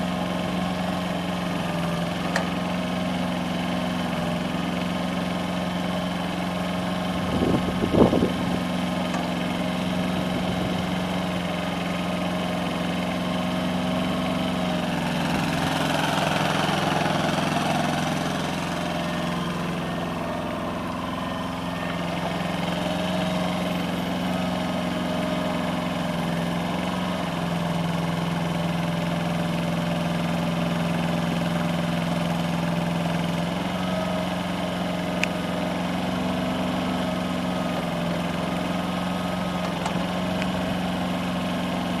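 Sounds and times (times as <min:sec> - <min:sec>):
excavator engine running: 0:00.0 - 0:42.0.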